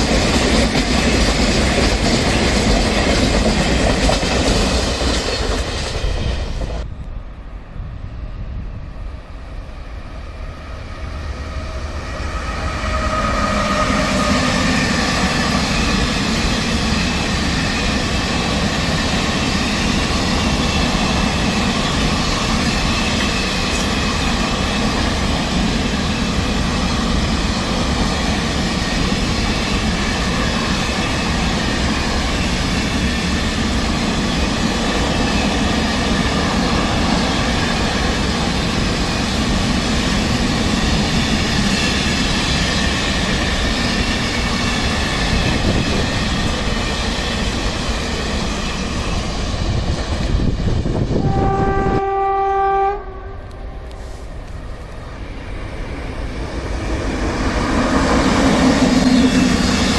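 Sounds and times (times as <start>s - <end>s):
train passing on track: 0.0s - 59.9s.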